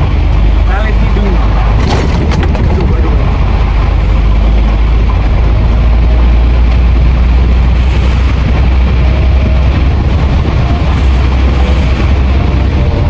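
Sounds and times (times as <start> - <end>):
diesel truck engine droning: 0.0 - 13.0
tyres on wet road: 0.0 - 13.0.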